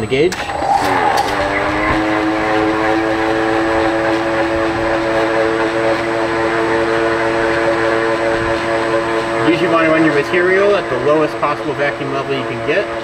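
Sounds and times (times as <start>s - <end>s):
electric vacuum pump humming: 0.0s - 13.0s.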